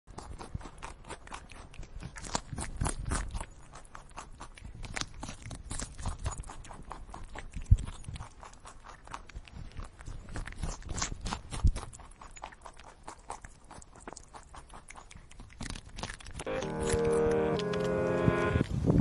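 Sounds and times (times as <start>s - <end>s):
squirrel gnawing nuts: 0.1s - 18.7s.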